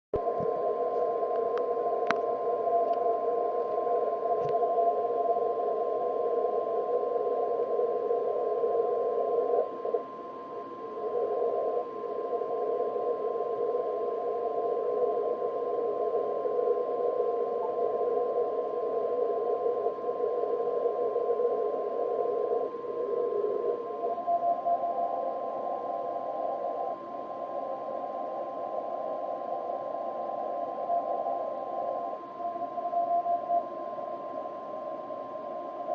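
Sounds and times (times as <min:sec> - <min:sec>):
radio band noise hiss: 0:00.2 - 0:35.9
steady high tone: 0:00.2 - 0:35.9.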